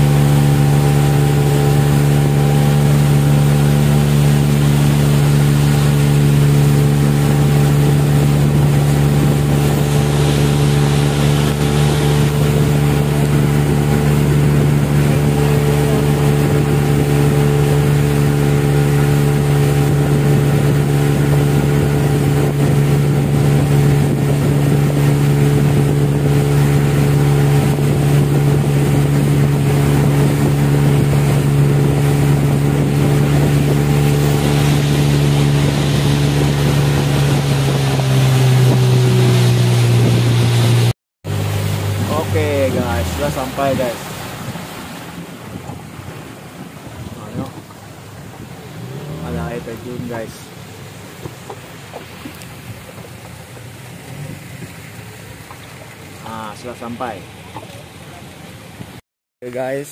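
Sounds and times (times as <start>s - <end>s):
motorboat engine droning: 0.0s - 59.9s
water rushing along hull: 0.0s - 59.9s.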